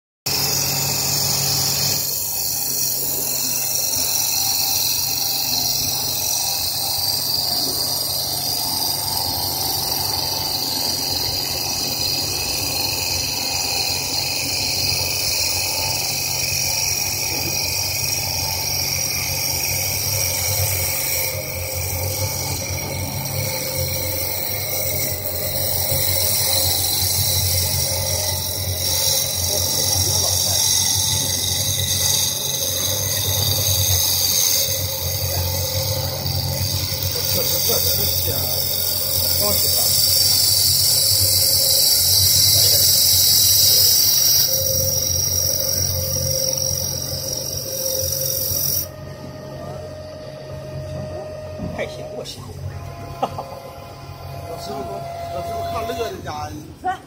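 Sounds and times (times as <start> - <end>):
cutter hissing shaving wood: 0.2 - 56.8
lathe motor humming: 0.3 - 57.0.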